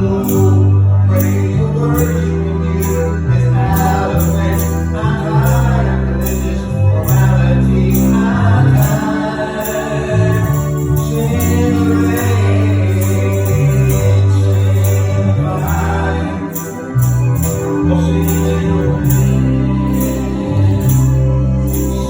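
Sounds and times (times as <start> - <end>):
gospel praise music: 0.0 - 22.0
heavy bass line: 0.0 - 22.0
people singing: 0.0 - 22.0
tambourine beat: 0.0 - 22.0.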